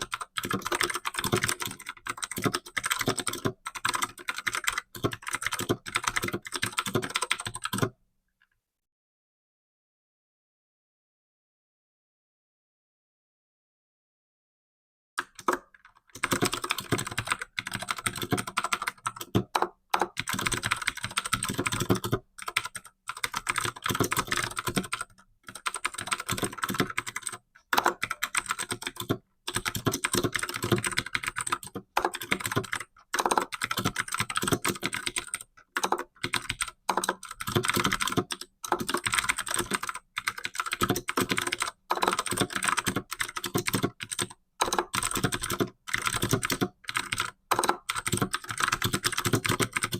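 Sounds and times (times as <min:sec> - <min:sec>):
keyboard typing: 0:00.0 - 0:07.9, 0:15.2 - 0:49.9.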